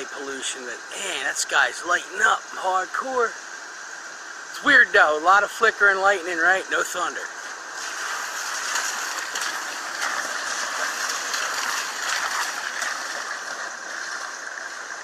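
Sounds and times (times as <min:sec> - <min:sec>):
heavy rain: 0:00.0 - 0:03.3, 0:04.5 - 0:15.0.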